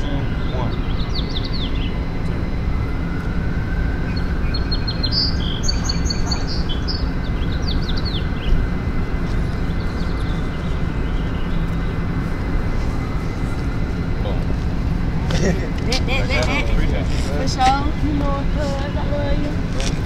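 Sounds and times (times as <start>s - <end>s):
birds chirping: 0.0s - 19.7s
low outdoor rumble: 0.0s - 20.0s.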